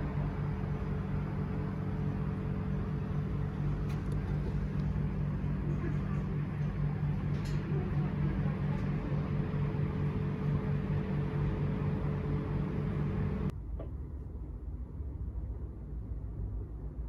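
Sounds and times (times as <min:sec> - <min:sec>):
machine hum with whine: 0:00.0 - 0:17.0.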